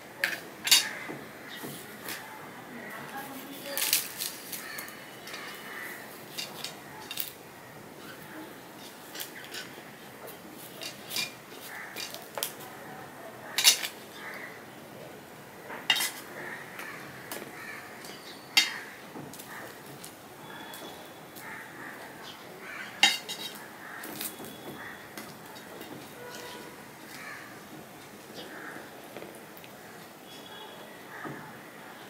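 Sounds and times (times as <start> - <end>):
flatbread crackling: 0.2 - 14.6, 15.8 - 31.2.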